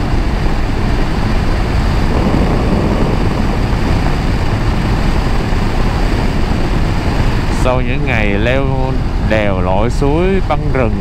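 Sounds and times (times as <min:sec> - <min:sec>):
wind buffeting on microphone: 0:00.0 - 0:11.0.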